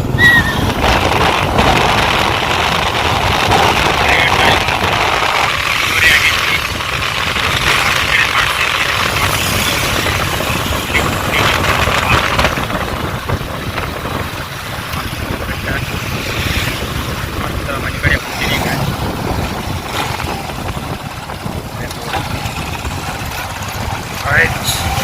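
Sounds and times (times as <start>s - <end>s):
rushing noise: 0.0s - 25.0s
vehicle engine running: 0.0s - 25.0s.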